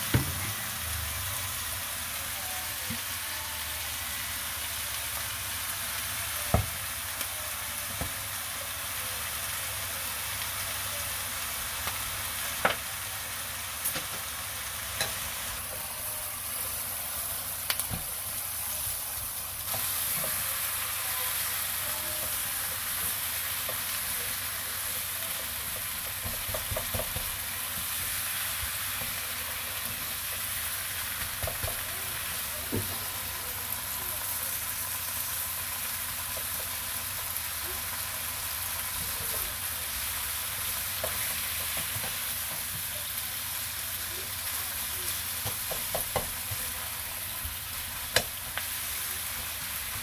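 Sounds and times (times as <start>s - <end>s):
food sizzling in a wok: 0.0s - 50.0s.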